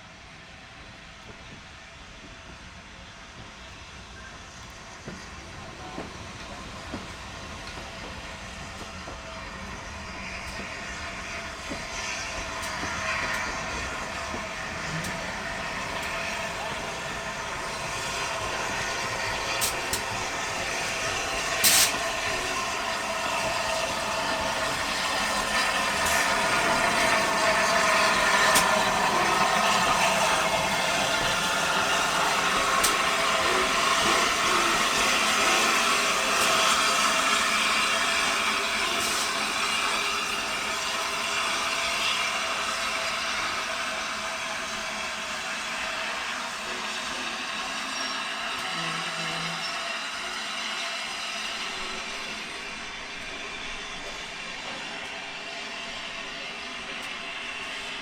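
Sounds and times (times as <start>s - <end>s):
steam hiss: 0.0s - 58.0s
train wheels on rails: 0.0s - 58.0s.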